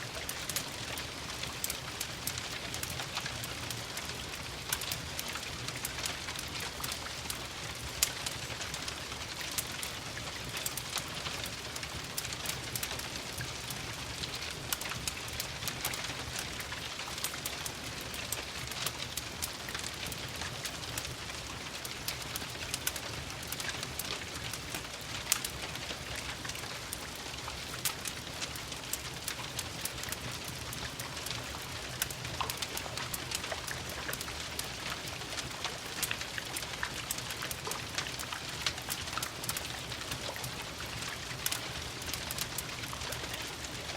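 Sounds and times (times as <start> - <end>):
fireplace crackling: 0.0 - 43.9
steady rain hissing: 0.0 - 43.9.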